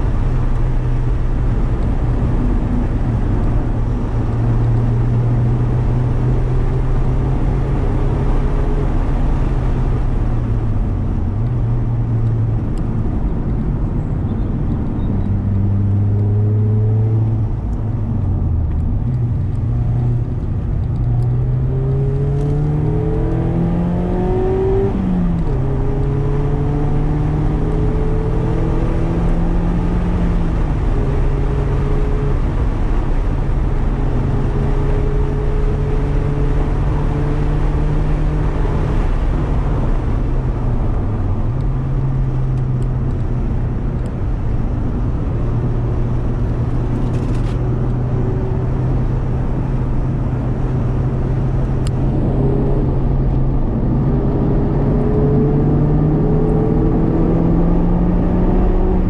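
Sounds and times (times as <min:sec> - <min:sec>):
car engine while driving: 0:00.0 - 0:59.0
road noise: 0:00.0 - 0:59.0.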